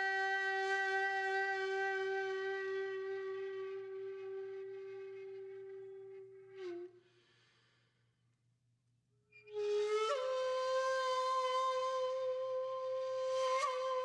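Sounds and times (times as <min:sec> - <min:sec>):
solo flute: 0:00.0 - 0:07.1, 0:09.3 - 0:14.0.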